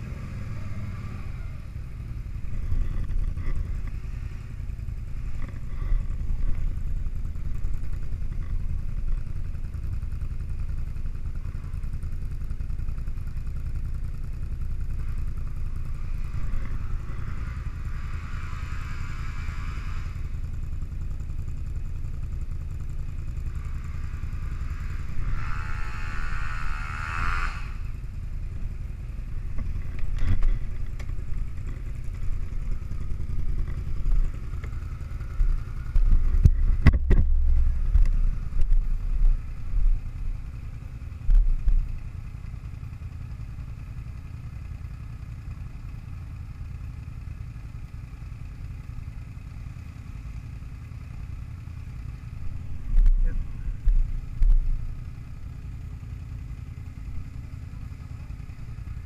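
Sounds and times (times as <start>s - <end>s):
atv engines rumbling: 0.0s - 59.0s
louder higher engine sound: 0.0s - 59.0s.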